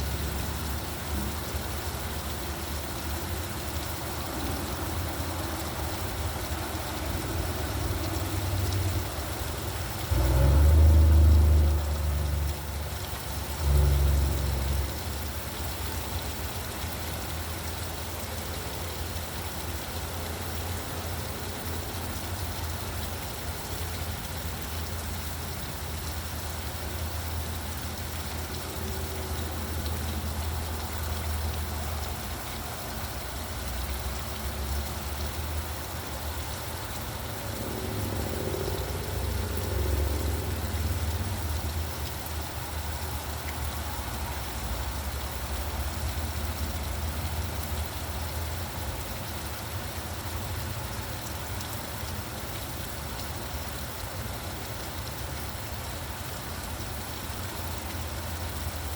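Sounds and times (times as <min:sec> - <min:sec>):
road traffic rumble: 0:00.0 - 0:52.3
steady rain falling: 0:00.0 - 0:58.9.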